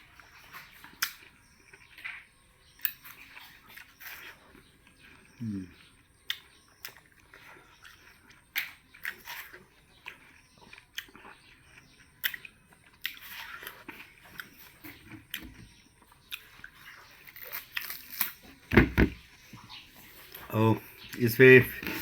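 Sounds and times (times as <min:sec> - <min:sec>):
chewing watermelon: 0:00.0 - 0:22.0.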